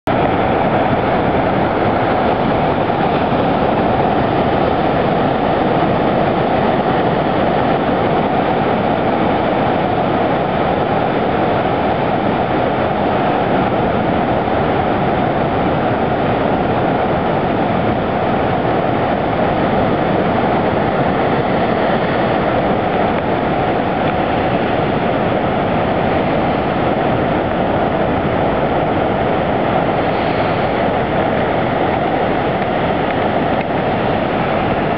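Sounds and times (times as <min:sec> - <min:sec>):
ocean surf breaking over rocks: 0:00.1 - 0:34.9.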